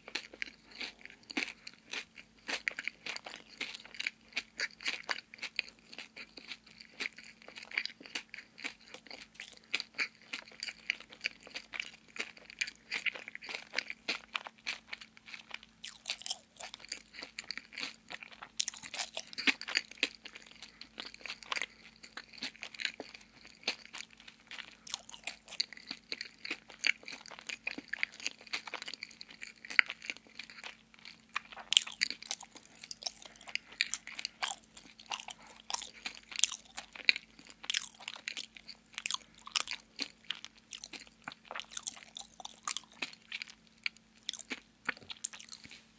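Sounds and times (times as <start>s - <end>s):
chewing donut: 0.0s - 45.9s
wet mouth clicks and crunches: 0.1s - 45.8s.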